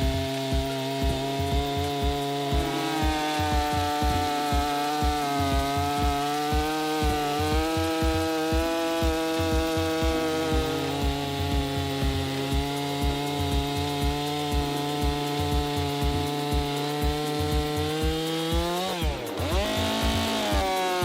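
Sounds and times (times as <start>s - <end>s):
background music with steady beat: 0.0s - 21.0s
chainsaw cutting wood: 0.0s - 21.0s.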